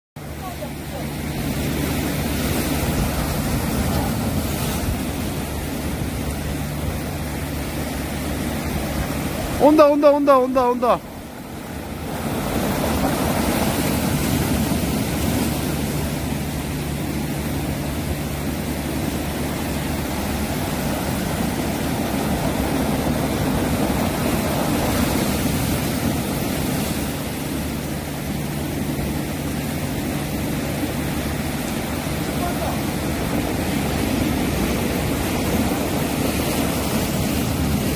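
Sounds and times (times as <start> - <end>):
surf churning over rocks: 0.2 - 37.9.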